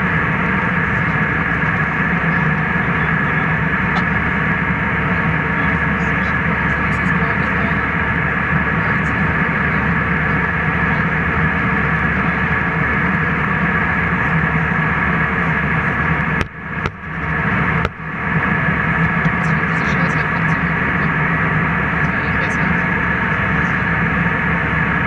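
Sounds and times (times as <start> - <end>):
jet airliner cabin noise: 0.0 - 25.0.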